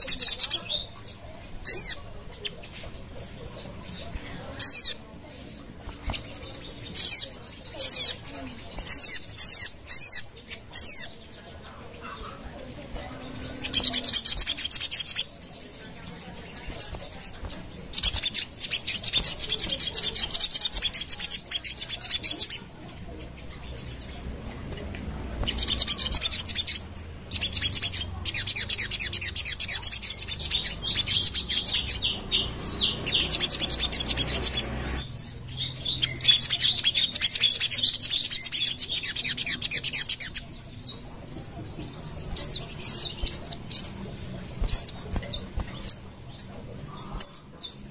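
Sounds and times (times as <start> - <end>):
bird chattering trills: 0.0 - 47.9.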